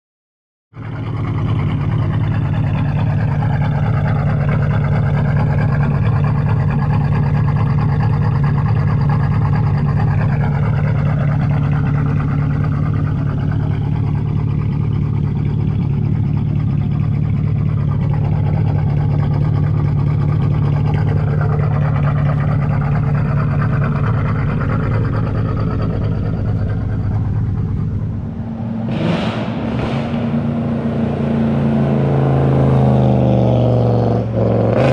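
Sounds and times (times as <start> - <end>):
car engine idling: 0.7 - 34.9.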